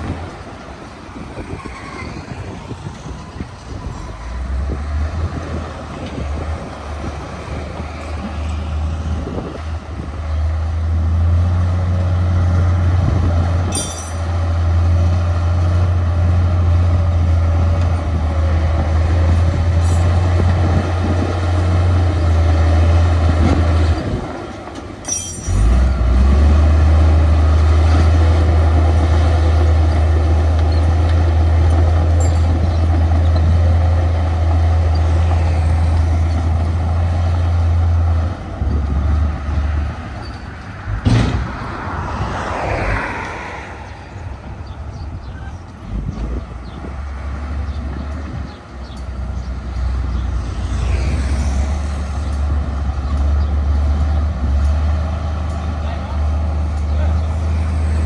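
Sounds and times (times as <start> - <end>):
diesel machinery engine drone: 0.0 - 41.8, 43.7 - 58.0.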